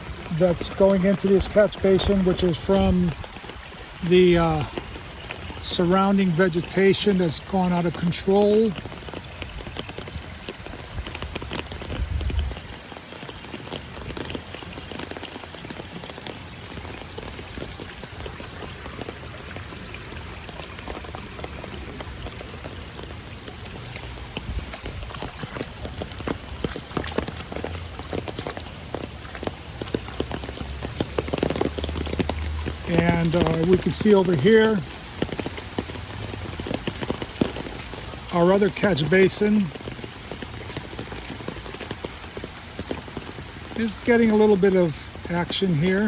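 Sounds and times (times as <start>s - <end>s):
heavy rain on pavement: 0.0s - 46.0s.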